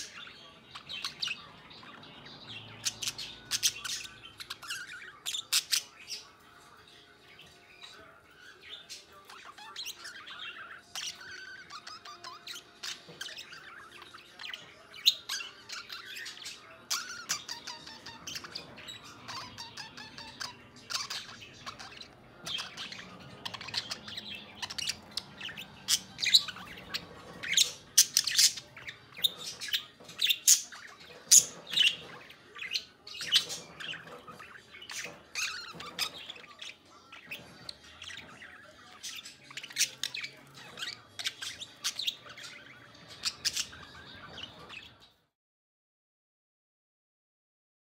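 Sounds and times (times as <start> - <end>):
budgerigars chattering: 0.0 - 45.1.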